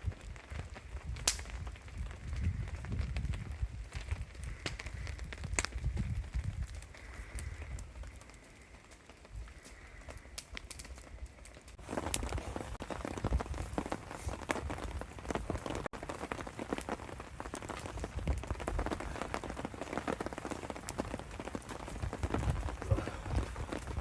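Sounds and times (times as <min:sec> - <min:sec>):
torrential rain: 0:00.0 - 0:24.0.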